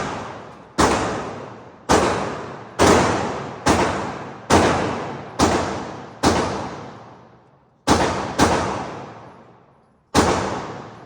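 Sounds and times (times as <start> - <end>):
gunshots: 0.0 - 7.2, 7.9 - 9.4, 10.1 - 11.0.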